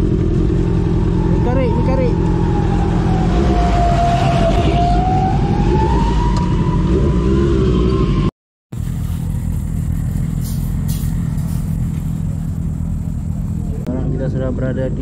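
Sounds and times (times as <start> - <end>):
motorcycle engine accelerating: 0.0 - 14.8.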